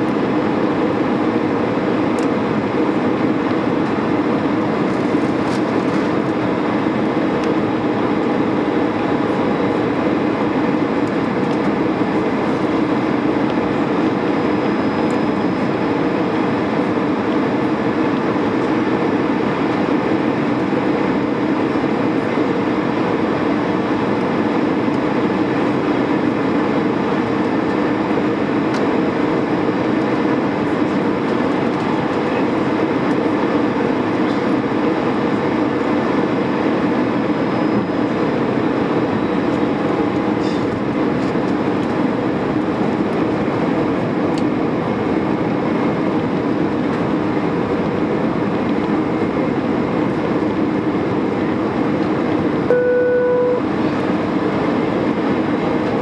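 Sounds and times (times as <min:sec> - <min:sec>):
jet engine rumble: 0:00.0 - 0:56.0.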